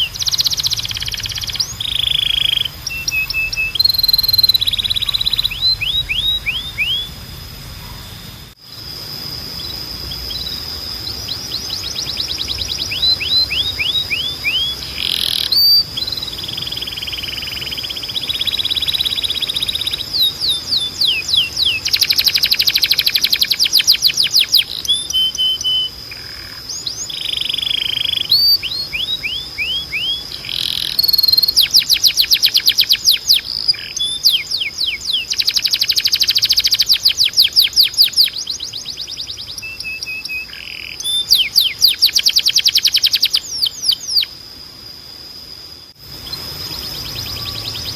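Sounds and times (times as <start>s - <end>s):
canary singing trills: 0.0s - 44.4s, 45.4s - 47.9s
thin steady high tone: 0.0s - 47.9s.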